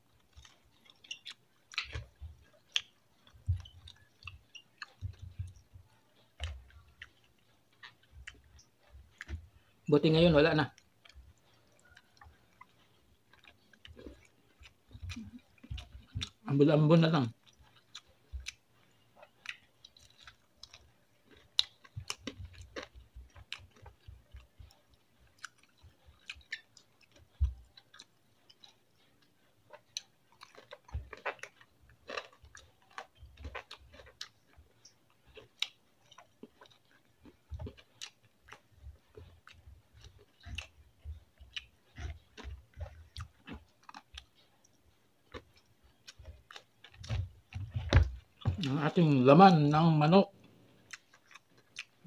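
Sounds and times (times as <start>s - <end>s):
chewing and mouth smacking: 0.0s - 52.0s.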